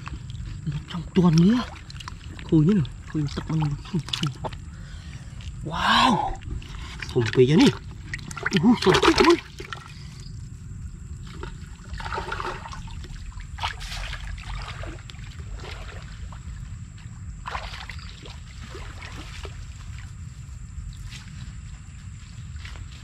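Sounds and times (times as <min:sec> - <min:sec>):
muddy water sloshing and splashing: 0:00.0 - 0:23.0
steady low rumble: 0:00.0 - 0:23.0.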